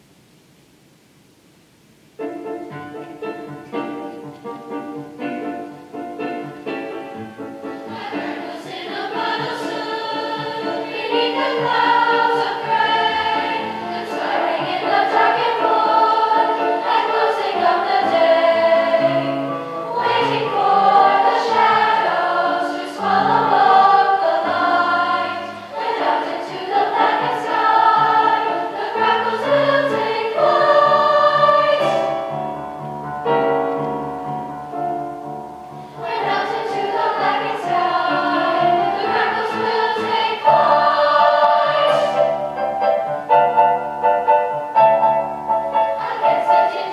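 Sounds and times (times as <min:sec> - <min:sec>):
choir singing in parts: 0:03.5 - 0:32.6, 0:35.8 - 0:46.9.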